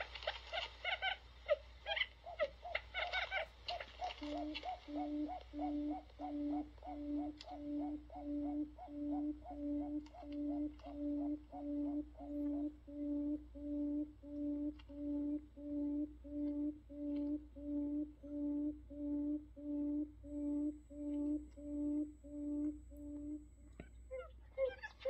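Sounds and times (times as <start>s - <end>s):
low hooting bird call: 0.3s - 25.0s.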